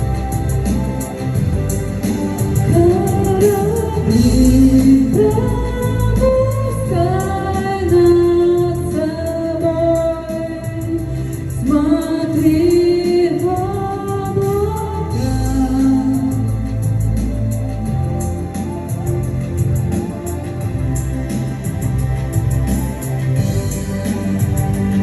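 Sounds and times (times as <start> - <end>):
pop backing track with beat: 0.0 - 25.0.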